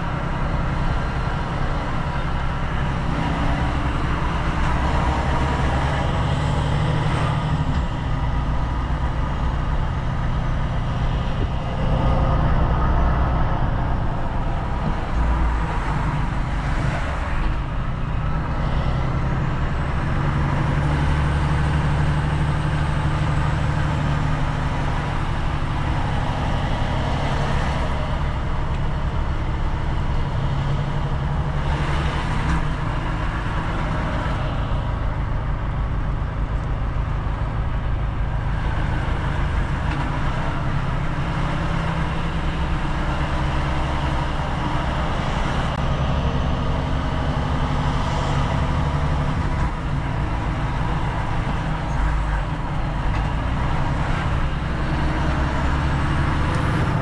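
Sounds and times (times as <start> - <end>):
diesel truck engine running: 0.0 - 57.0
road noise: 0.0 - 57.0.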